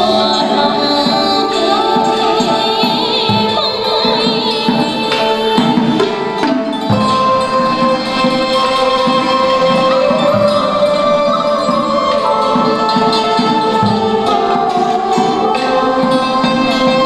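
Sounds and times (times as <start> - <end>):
drum strokes: 0.0 - 17.0
wavering melody lines: 0.0 - 17.0.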